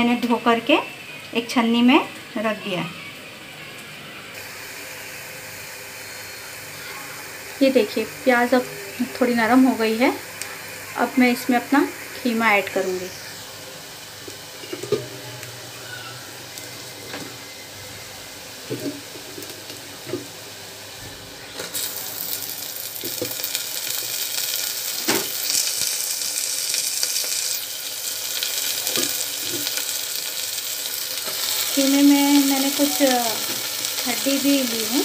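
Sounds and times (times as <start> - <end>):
sizzling in hot oil: 4.3 - 17.8, 18.4 - 20.9, 21.6 - 35.0.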